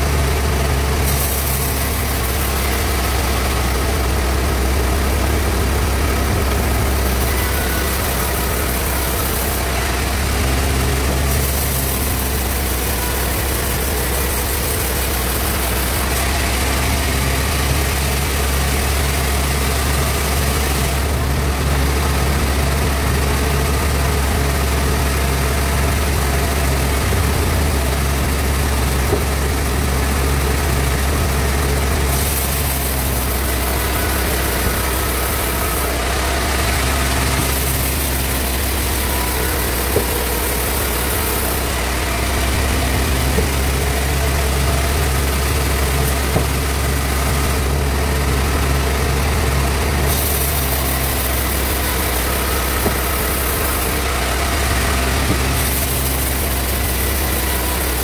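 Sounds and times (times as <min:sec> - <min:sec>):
bandsaw running: 0:00.0 - 0:58.0.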